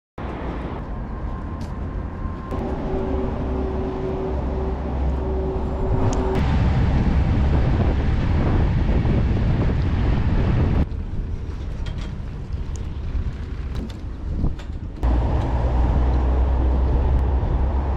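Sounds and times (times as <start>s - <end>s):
low engine rumble: 0.3s - 17.9s
wind on microphone: 2.5s - 17.9s.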